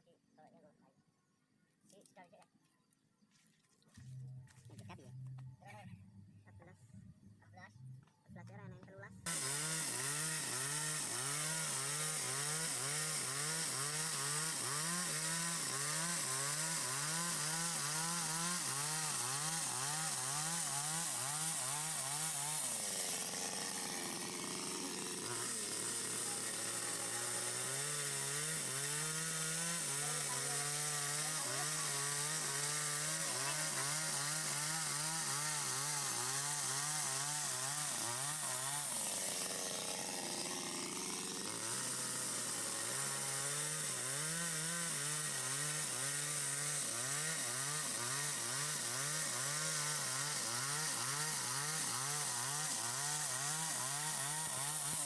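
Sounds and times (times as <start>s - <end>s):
chainsaw cutting wood: 8.0s - 55.0s.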